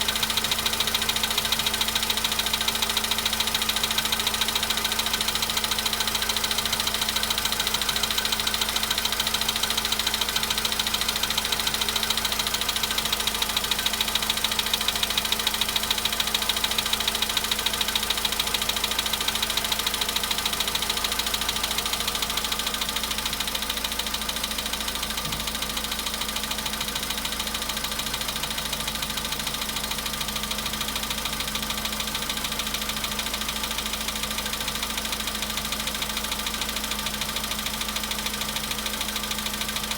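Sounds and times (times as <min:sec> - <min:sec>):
car engine idling: 0:00.0 - 0:39.9
fast even engine knocking: 0:00.0 - 0:39.9.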